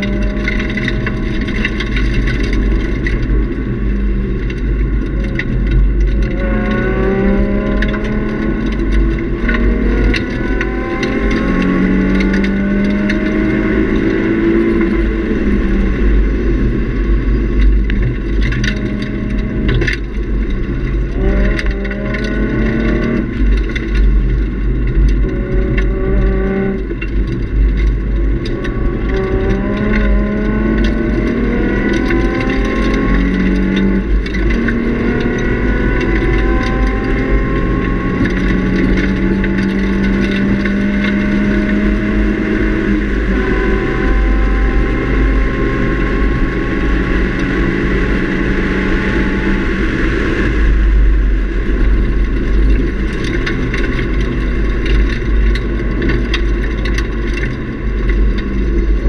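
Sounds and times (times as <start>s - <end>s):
car engine accelerating: 0.0s - 59.0s
road and wind rumble: 0.0s - 59.0s.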